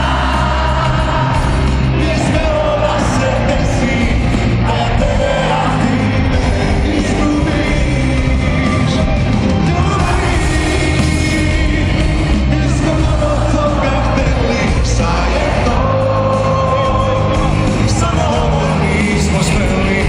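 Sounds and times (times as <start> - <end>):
live concert music with singing: 0.0 - 20.0.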